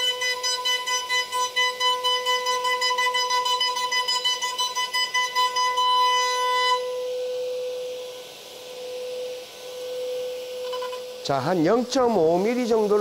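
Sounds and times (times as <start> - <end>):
router cutting wood: 0.0 - 13.0
spindle whine: 0.0 - 13.0.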